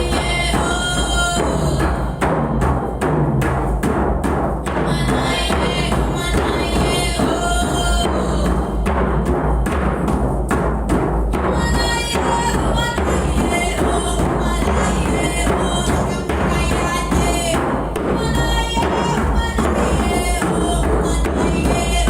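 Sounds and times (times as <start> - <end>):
music with fast drumming: 0.0 - 22.0.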